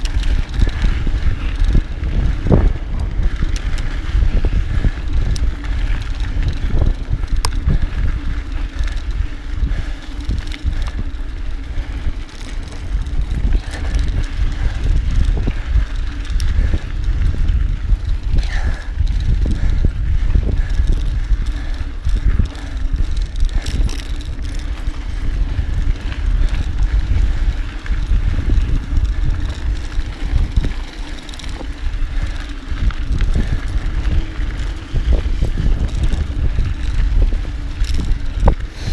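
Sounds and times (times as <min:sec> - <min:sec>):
bike clicks and rattles: 0:00.0 - 0:38.9
bike tyres rumbling on dirt: 0:00.0 - 0:38.9.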